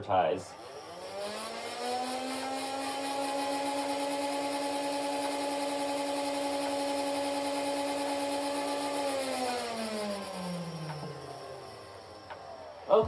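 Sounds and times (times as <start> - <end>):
toy blaster motors humming: 0.0 - 13.0.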